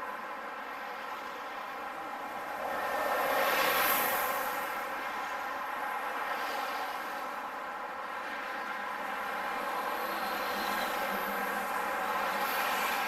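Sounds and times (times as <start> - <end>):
road traffic drone: 0.0 - 13.0.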